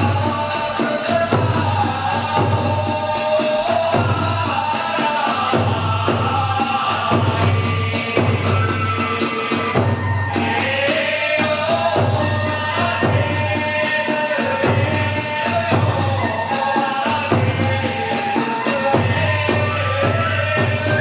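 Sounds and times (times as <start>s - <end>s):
hand cymbals clashing: 0.0s - 19.8s
drums beating: 0.0s - 21.0s.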